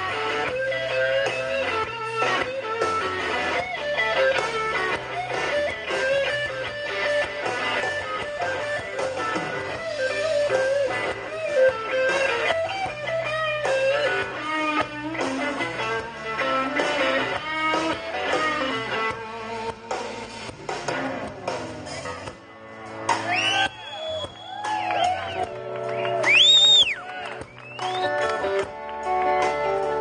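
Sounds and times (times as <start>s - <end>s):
bass guitar: 0.0s - 30.0s
drums: 0.0s - 30.0s
electric guitar lead: 0.0s - 30.0s.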